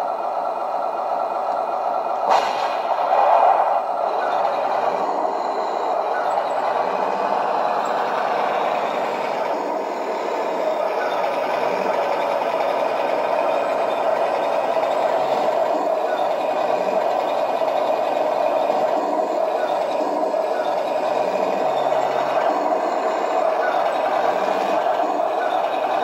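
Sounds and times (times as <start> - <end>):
simulated engine sound: 0.0 - 26.0
toy tank tracks whirring: 0.0 - 26.0.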